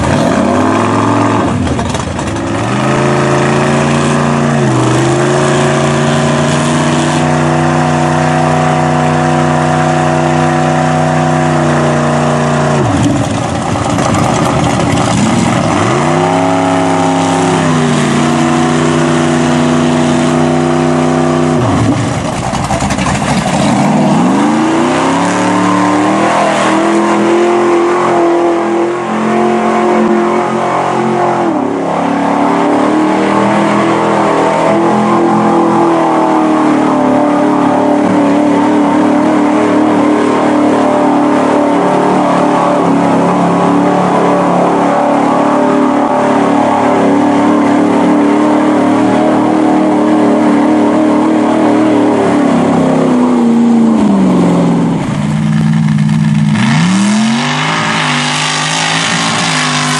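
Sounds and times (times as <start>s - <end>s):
truck engines revving hard: 0.0s - 59.9s.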